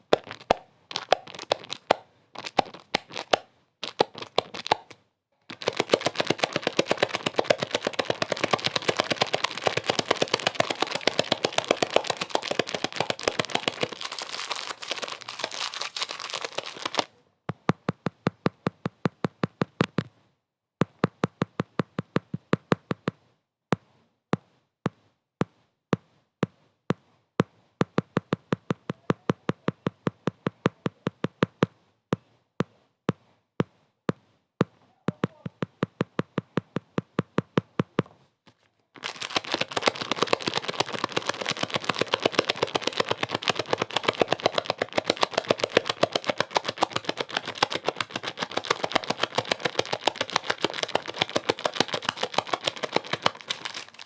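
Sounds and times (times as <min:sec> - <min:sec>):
rapid sharp taps: 0:00.0 - 0:20.2, 0:20.8 - 0:38.2, 0:39.0 - 0:54.0.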